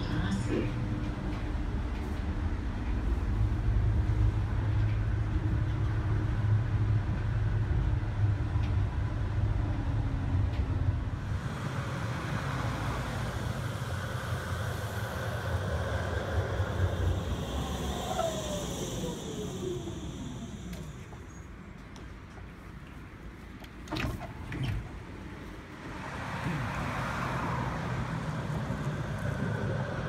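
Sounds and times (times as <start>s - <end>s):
outdoor street noise: 0.0s - 30.0s
tram rumbling: 0.0s - 30.0s.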